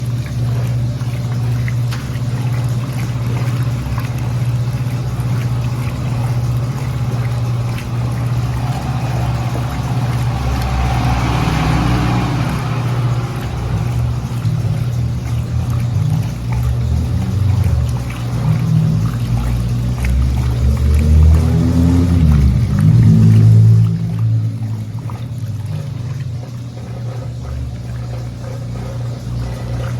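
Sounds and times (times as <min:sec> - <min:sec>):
washing machine motor hum: 0:00.0 - 0:29.9
water sloshing: 0:00.0 - 0:29.9.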